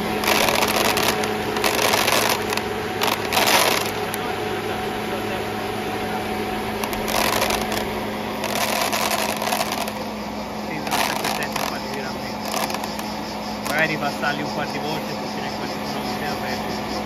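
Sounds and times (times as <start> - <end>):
machine electric hum: 0.0 - 17.0.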